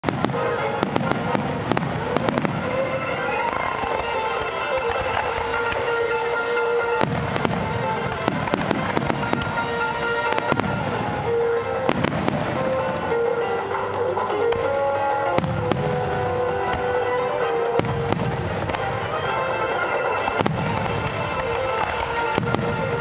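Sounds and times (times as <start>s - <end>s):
fireworks bangs and crackle: 0.0s - 23.0s
music with held melody: 0.0s - 23.0s.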